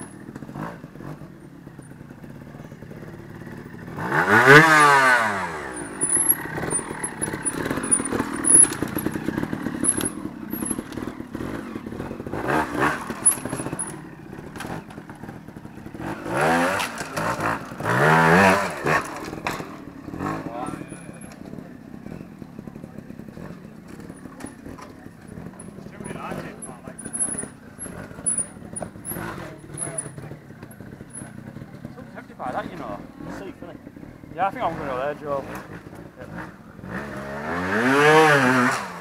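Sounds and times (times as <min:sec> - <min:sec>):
motorcycle engine revving: 0:00.0 - 0:39.0
bike knocking and scraping on rock: 0:03.0 - 0:38.8.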